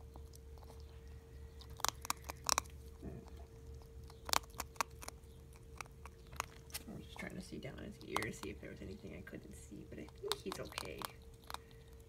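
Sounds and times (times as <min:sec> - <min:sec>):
ferret crunching dry kibble: 0:00.0 - 0:12.0.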